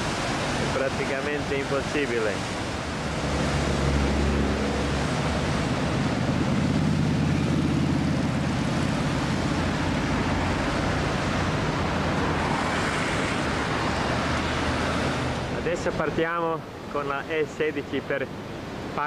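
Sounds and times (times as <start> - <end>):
road traffic passing: 0.0 - 17.0
waterfall rushing: 0.0 - 19.0.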